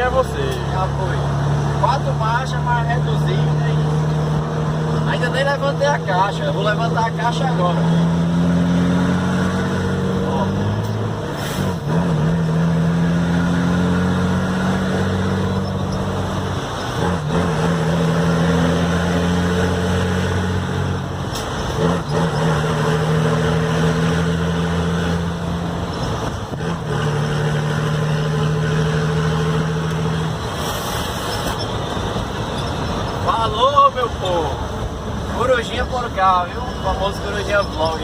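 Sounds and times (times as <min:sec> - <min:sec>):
truck diesel engine pulling hard: 0:00.0 - 0:38.0.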